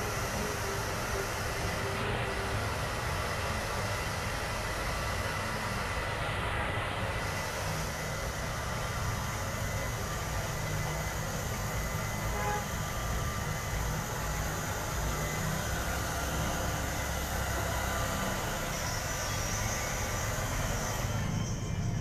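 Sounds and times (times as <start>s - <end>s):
hair dryer running: 0.0s - 21.4s.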